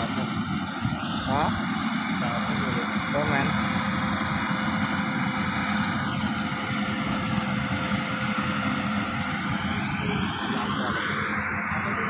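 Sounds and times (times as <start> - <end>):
combine harvester engine and threshing: 0.0 - 12.0.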